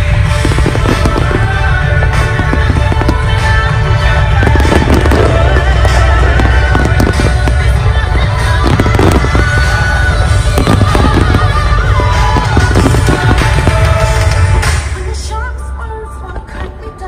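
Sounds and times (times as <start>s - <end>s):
fireworks bursting and crackling: 0.0s - 15.0s
low rumble: 0.0s - 15.2s
music playing: 0.0s - 17.0s.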